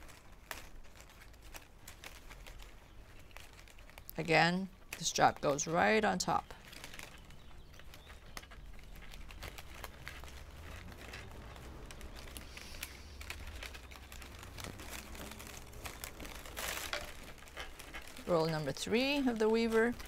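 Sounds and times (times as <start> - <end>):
plastic straps crinkling and clicking: 0.0 - 20.0.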